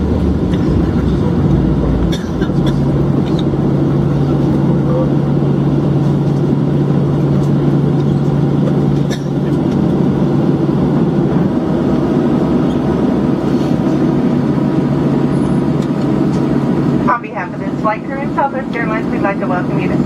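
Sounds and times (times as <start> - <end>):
constant low hum: 0.0 - 20.0
rumble of engines and wheels: 0.0 - 20.0.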